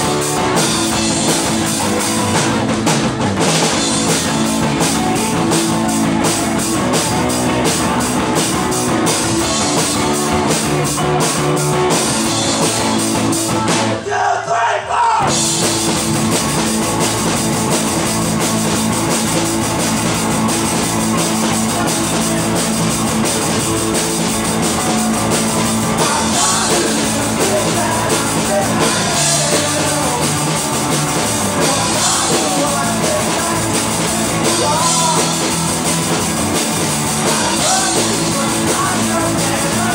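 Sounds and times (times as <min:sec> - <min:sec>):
electric guitar: 0:00.0 - 0:14.0, 0:15.2 - 0:39.9
drum kit fast beat: 0:00.0 - 0:14.1, 0:15.2 - 0:39.9
bass guitar: 0:00.0 - 0:14.2, 0:15.0 - 0:39.9.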